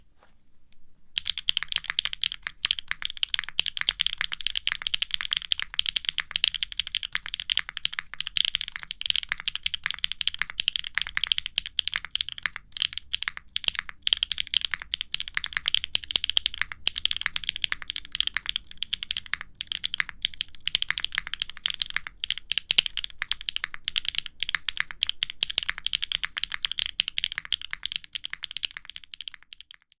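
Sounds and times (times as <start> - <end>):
fast typing on mechanical keyboard: 1.2 - 30.0.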